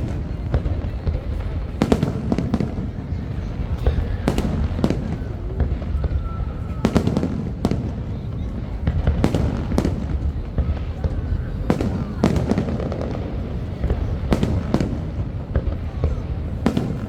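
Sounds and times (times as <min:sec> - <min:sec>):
fireworks bangs: 0:00.0 - 0:17.0
low rumble of fireworks: 0:00.0 - 0:17.0.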